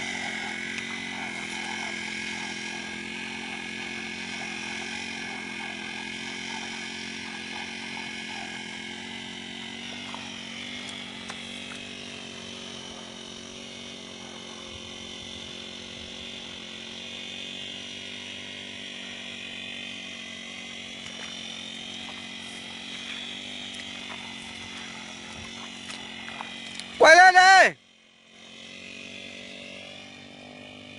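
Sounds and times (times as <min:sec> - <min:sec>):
brush cutter engine running: 0:00.0 - 0:30.9.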